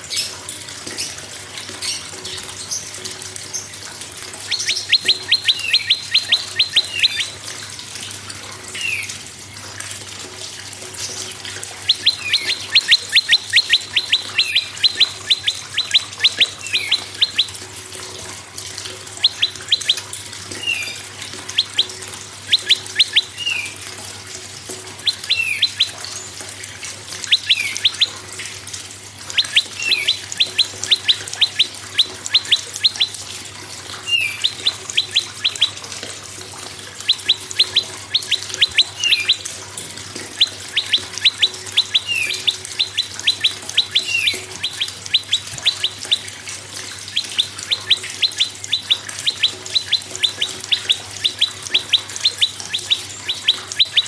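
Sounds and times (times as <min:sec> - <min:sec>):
songbird singing: 0:04.4 - 0:07.6, 0:08.7 - 0:09.2, 0:11.0 - 0:18.2, 0:19.1 - 0:23.8, 0:24.9 - 0:28.7, 0:29.3 - 0:36.0, 0:36.8 - 0:54.0.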